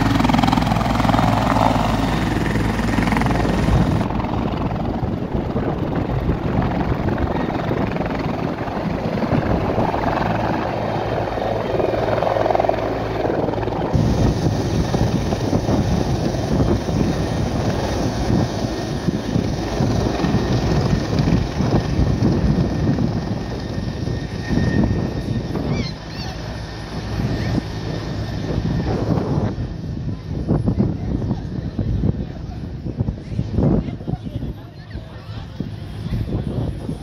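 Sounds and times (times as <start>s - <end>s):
turbine running: 0.0s - 30.5s
helicopter rotor beating: 0.0s - 37.0s.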